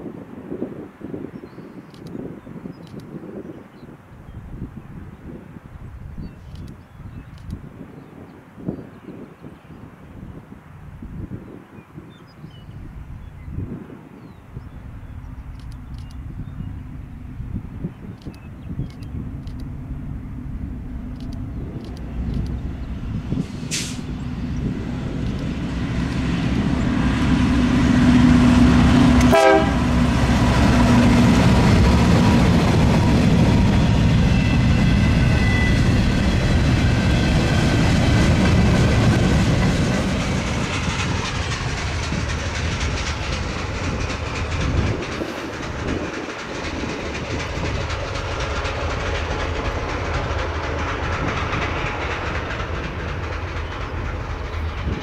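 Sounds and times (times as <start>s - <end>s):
diesel locomotives passing: 8.5s - 55.0s.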